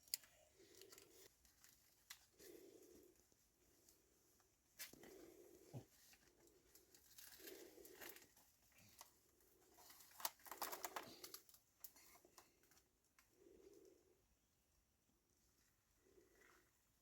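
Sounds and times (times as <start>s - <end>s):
light crinkling: 0.0s - 14.0s.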